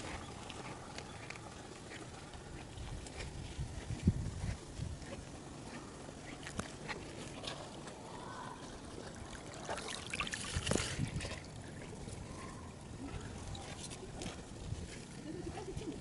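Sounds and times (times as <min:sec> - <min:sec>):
water trickling in stream: 0:00.0 - 0:16.0.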